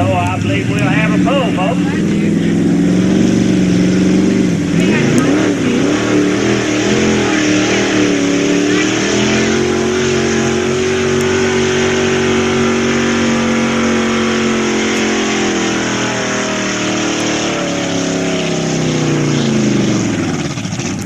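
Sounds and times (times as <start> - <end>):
truck engine at high revs: 0.0 - 21.0.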